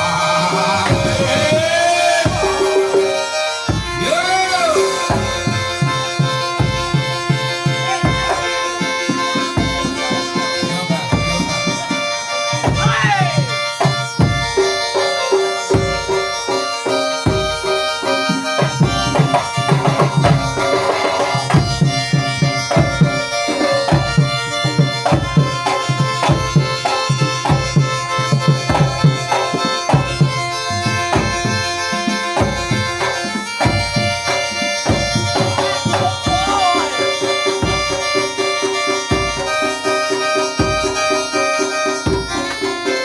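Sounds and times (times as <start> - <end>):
hand drums beating fast: 0.0 - 43.0
reedy wind instrument melody: 0.0 - 43.0.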